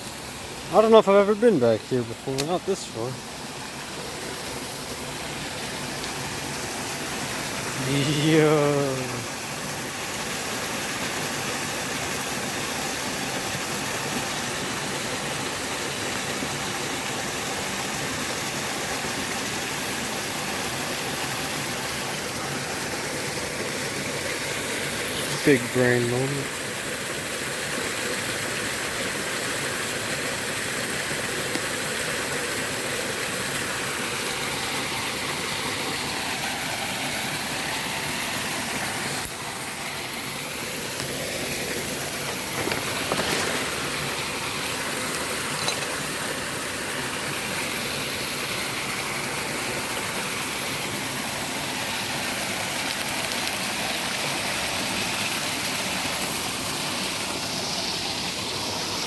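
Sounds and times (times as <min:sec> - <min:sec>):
small waterfall rushing: 0:00.0 - 0:59.0.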